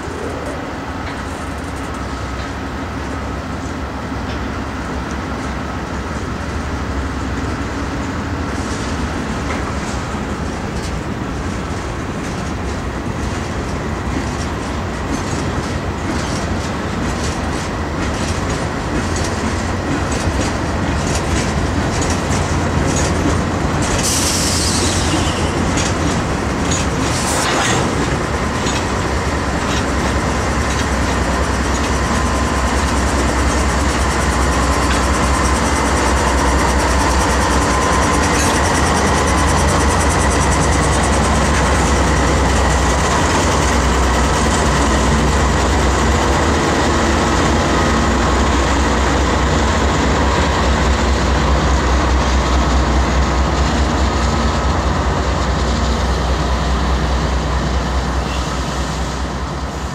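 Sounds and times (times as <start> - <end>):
train wheels clicking over rail joints: 0.1 - 59.9.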